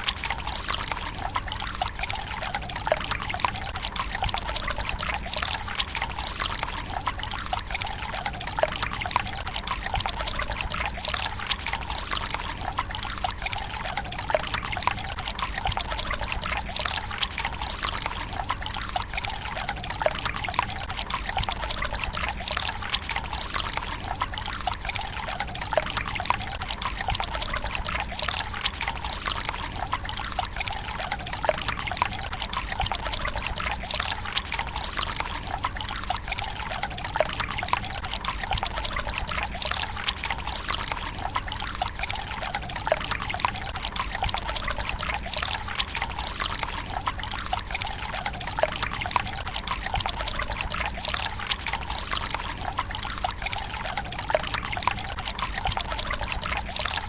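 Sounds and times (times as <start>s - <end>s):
water trickling into stone basin: 0.0s - 57.0s.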